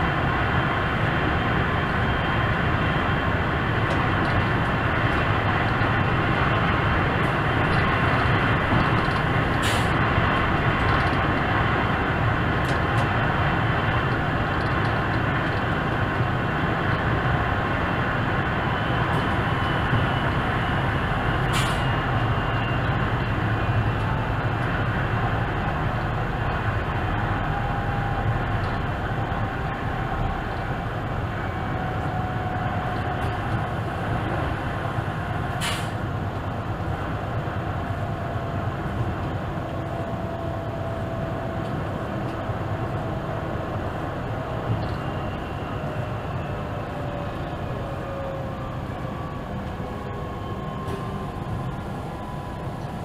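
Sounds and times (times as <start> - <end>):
low traction motor hum: 0.0 - 53.0
train wheels rumbling on rails: 0.0 - 53.0.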